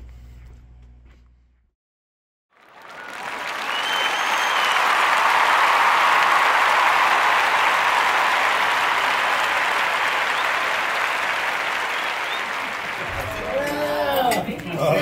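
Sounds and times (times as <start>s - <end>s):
crowd applauding: 2.5s - 15.0s.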